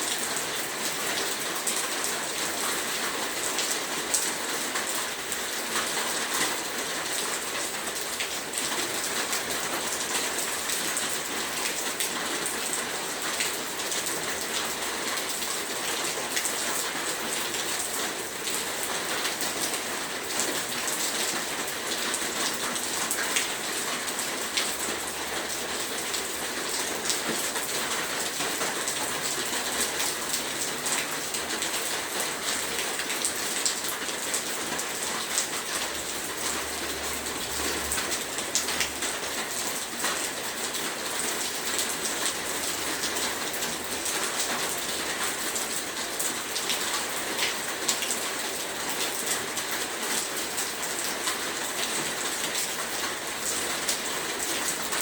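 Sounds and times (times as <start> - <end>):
heavy rain: 0.0 - 55.0
raindrops pattering on surfaces: 0.0 - 55.0.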